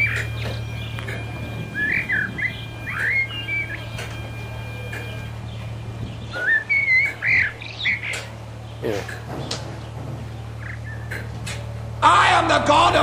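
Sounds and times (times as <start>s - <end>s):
small birds chirping: 0.0s - 12.0s
steady low hum: 0.0s - 13.0s.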